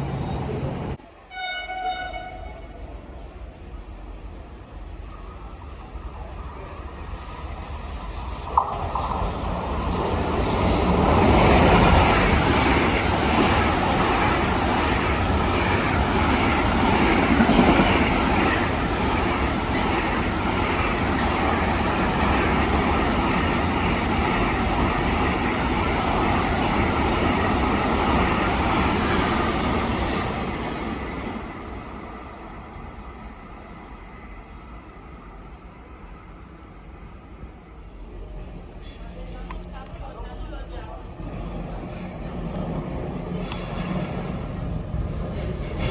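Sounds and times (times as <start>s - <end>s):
train wheels rumbling on rails: 2.8s - 45.9s.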